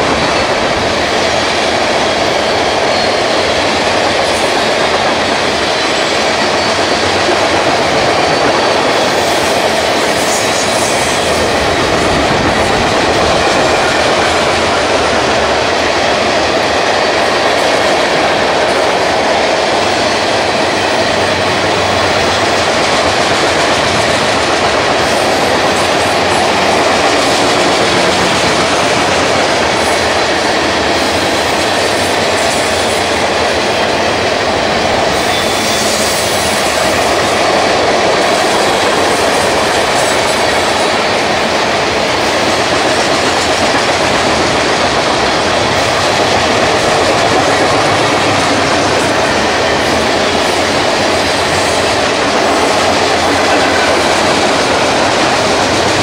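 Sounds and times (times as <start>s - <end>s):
train wheels clacking over rails: 0.0s - 56.0s.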